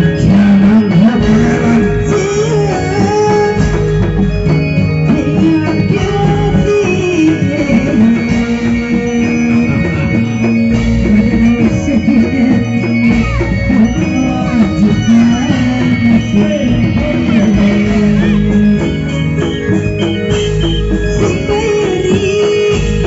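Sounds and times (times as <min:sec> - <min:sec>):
drum strokes: 0:00.0 - 0:23.0
pitch-bending melodic line: 0:00.0 - 0:23.0.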